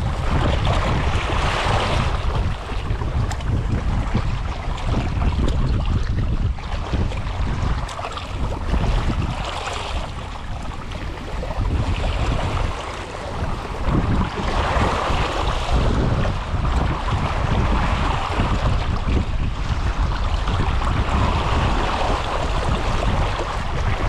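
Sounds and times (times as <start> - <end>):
waves splashing against rocks: 0.0 - 24.0
wind buffeting microphone: 0.0 - 24.0.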